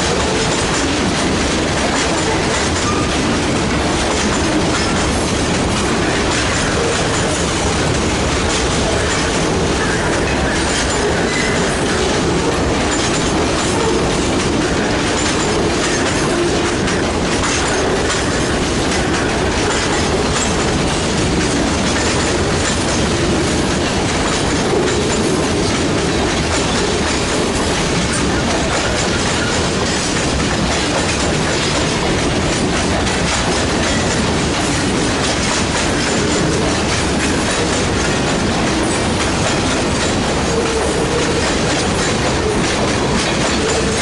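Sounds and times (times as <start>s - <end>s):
freight train cars rumbling: 0.0s - 44.0s
wheels clicking over rail joints: 0.0s - 44.0s.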